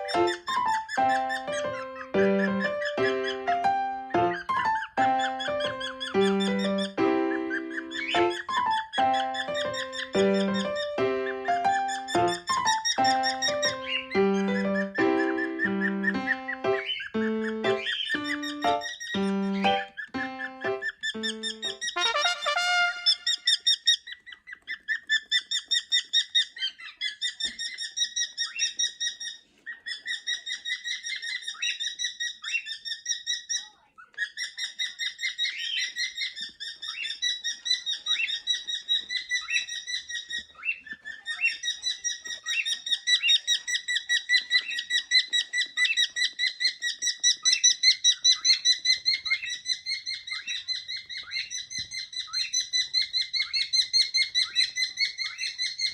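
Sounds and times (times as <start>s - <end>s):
cockatiels chirping: 0.0s - 55.9s.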